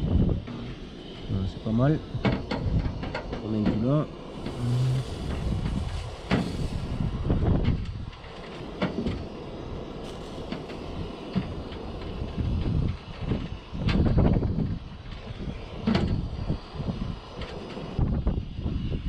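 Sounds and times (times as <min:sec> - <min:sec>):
gas burner rushing: 0:00.0 - 0:19.0
soldering iron scraping metal: 0:00.5 - 0:18.0.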